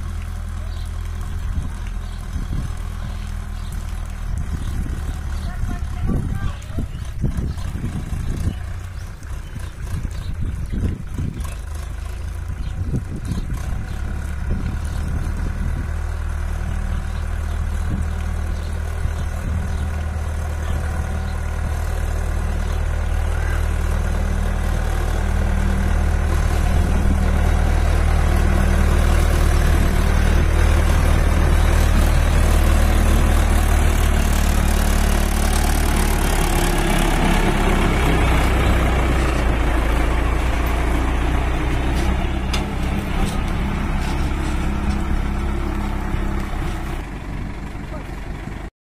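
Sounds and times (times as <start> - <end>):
tractor engine under heavy load: 0.0 - 48.7.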